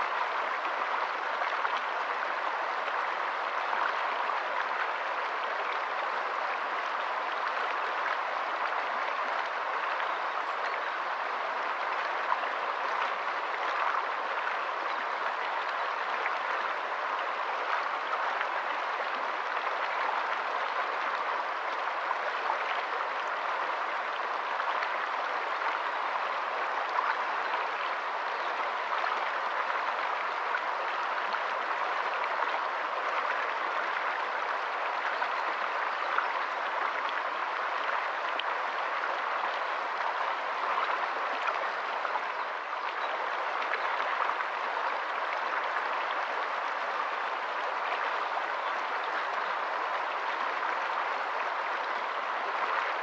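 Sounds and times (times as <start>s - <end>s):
stream flowing over stones: 0.0s - 53.0s.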